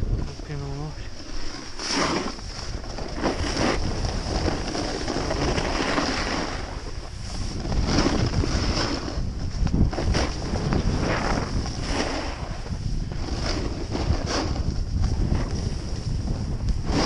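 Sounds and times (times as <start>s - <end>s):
snowboard scraping over snow: 0.0s - 17.0s
wind buffeting microphone: 0.0s - 17.0s.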